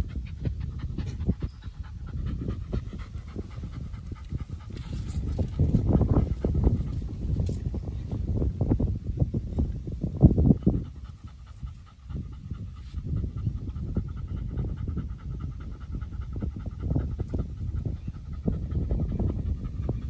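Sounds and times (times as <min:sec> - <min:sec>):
dog panting: 0:00.0 - 0:08.2, 0:10.3 - 0:20.0.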